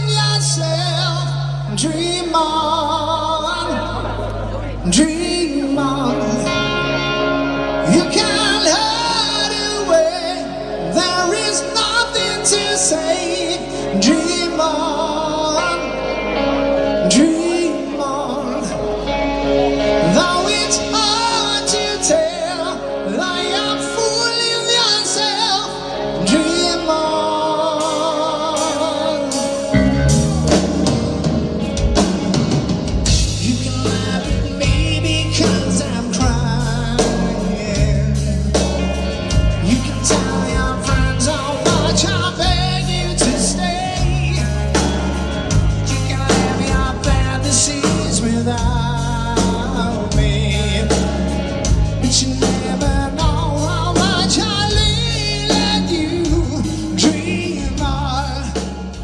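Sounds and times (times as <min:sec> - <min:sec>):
man singing with vibrato: 0:00.0 - 0:59.0
rock band playing: 0:00.0 - 0:59.0.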